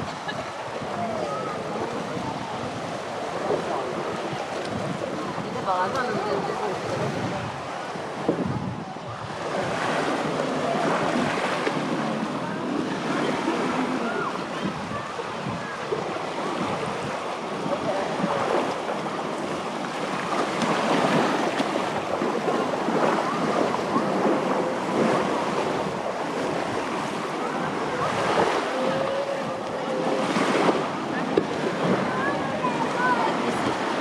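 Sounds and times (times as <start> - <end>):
waves breaking on beach: 0.0 - 34.0.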